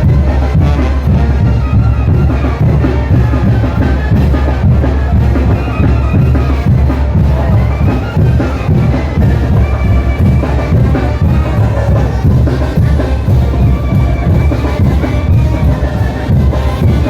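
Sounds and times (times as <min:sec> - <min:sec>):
brass band playing: 0:00.0 - 0:17.0
loud drum beat: 0:00.0 - 0:17.0.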